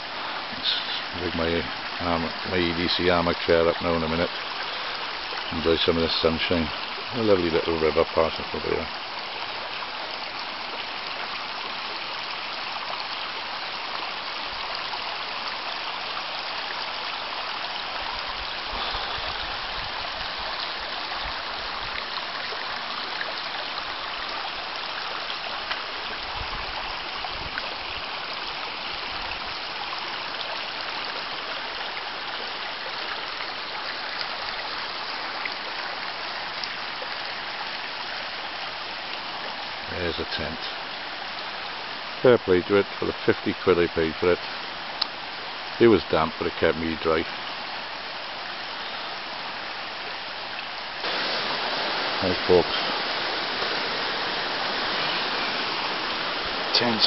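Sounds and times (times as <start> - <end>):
river running over stones: 0.0 - 57.0.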